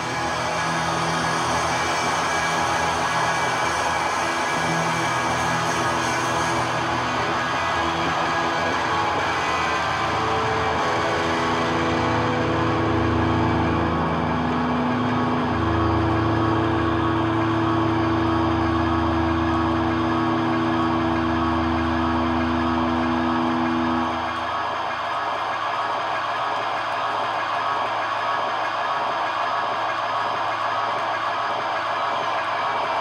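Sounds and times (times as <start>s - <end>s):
distorted electric guitar feedback: 0.0s - 33.0s.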